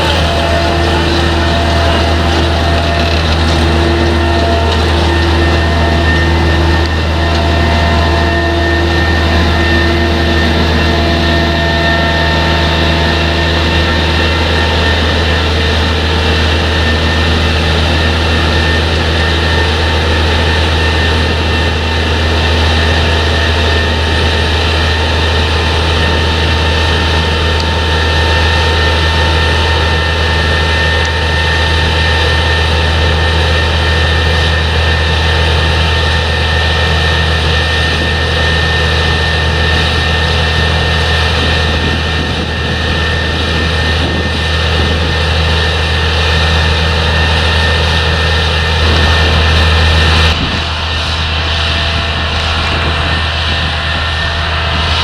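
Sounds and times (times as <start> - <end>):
diesel engine drone: 0.0 - 55.0
machinery whining tones: 0.0 - 55.0.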